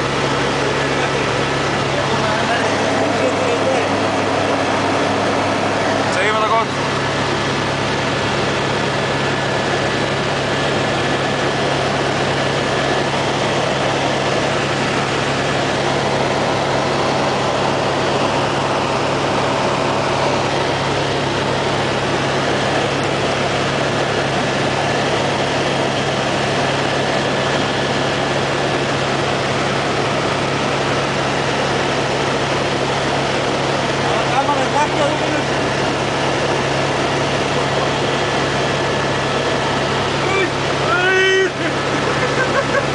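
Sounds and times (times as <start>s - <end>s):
helicopter engine and rotor drone: 0.0s - 42.9s.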